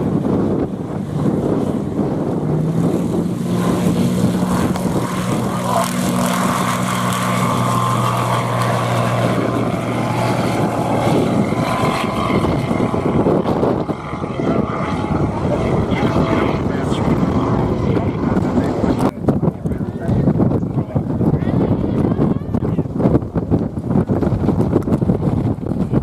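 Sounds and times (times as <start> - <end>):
light aircraft engine and propeller: 0.0 - 26.0.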